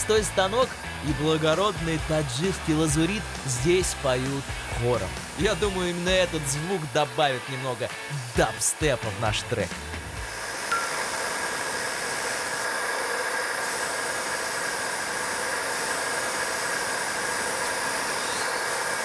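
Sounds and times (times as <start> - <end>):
stone saw whirring: 0.0 - 19.0.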